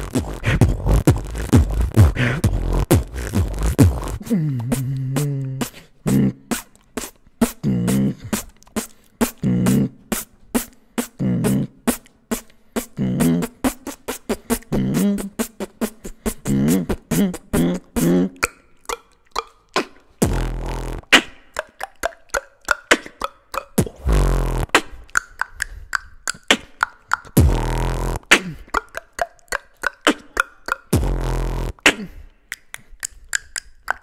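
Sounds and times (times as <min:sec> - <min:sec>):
person beatboxing: 0:00.0 - 0:34.0.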